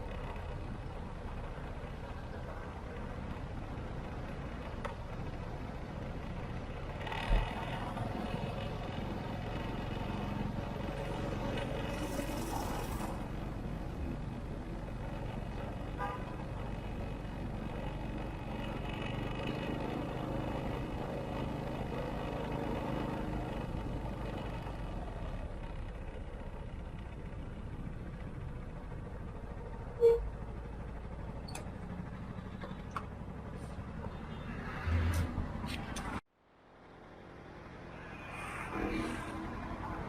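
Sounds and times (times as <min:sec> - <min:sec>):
city traffic hum: 0:00.0 - 0:40.0.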